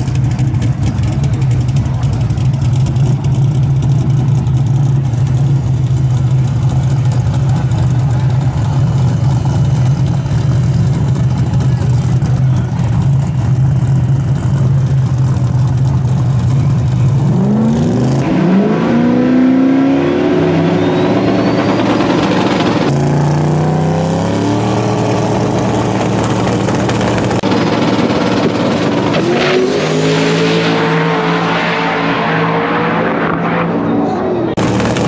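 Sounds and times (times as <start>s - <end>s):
drag car engines revving: 0.0s - 35.0s.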